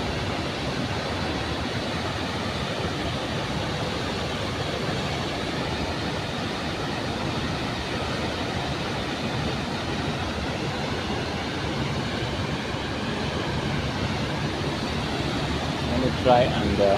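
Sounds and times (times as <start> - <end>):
waterfall roaring: 0.0 - 16.9.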